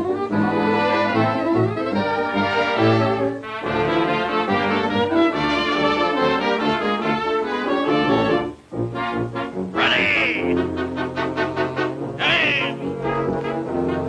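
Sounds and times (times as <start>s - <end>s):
brass-led orchestral music: 0.0s - 14.0s.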